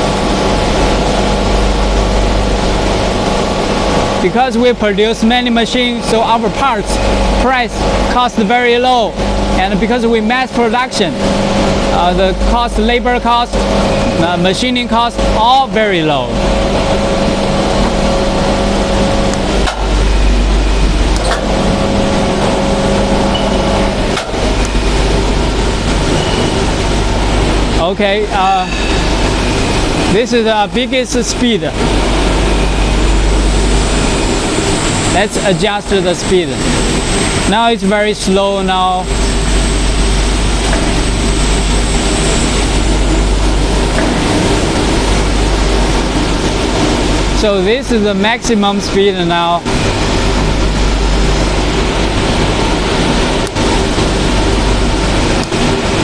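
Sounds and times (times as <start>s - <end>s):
electric motor hum: 0.0s - 48.2s
loud workshop machinery: 0.0s - 56.0s
welding positioner drive whining: 0.0s - 56.0s.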